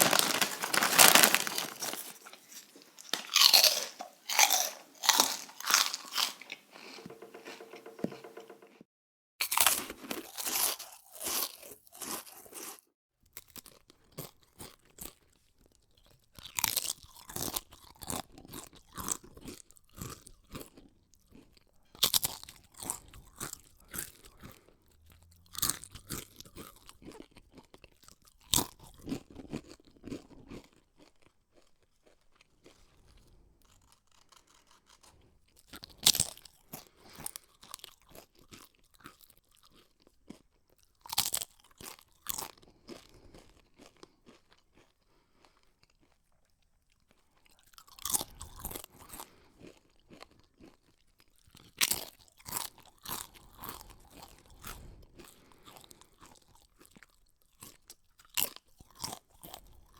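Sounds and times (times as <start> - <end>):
person chewing crunchy snacks: 0.0 - 8.8, 9.4 - 59.9.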